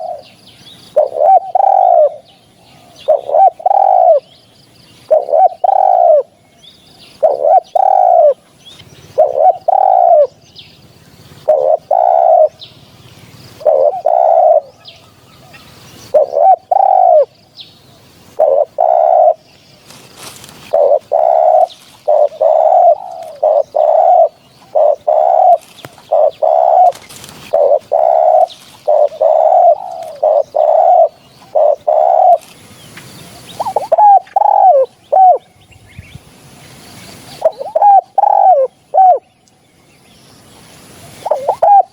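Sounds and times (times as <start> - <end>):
dove cooing: 0.0 - 6.4, 7.2 - 35.5, 37.2 - 39.3, 41.0 - 41.9.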